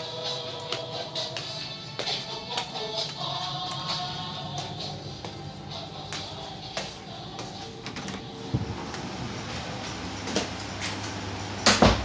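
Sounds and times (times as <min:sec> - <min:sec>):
footsteps: 0:00.0 - 0:11.2.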